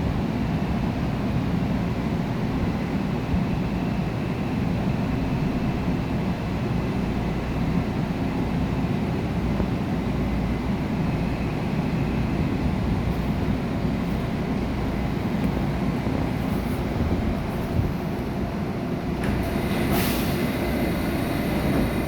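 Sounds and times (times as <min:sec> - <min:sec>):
subway train wheels rumbling on rails: 0:00.0 - 0:22.0.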